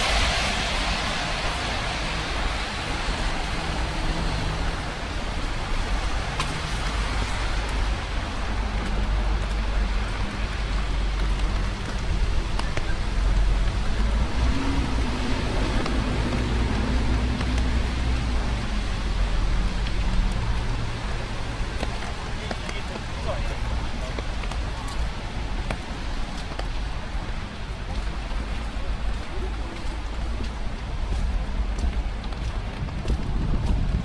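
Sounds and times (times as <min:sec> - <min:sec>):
rain hiss: 0:00.0 - 0:30.4
road traffic rumble: 0:00.0 - 0:34.0
raindrop ticks: 0:05.0 - 0:34.0.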